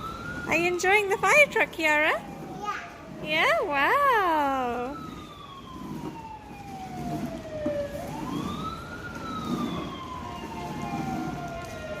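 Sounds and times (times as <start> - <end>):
toy fire truck siren wailing: 0.0 - 12.0.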